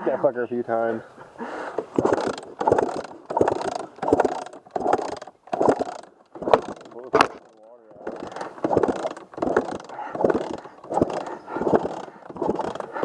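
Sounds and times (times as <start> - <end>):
dirt bike engine being kicked over: 1.8 - 13.0.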